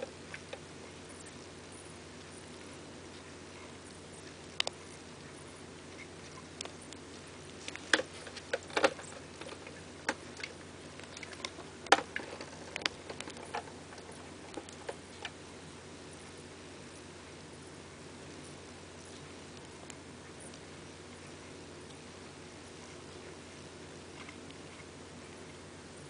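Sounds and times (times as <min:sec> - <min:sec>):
beetle mandibles crunching insect: 0:00.0 - 0:25.6.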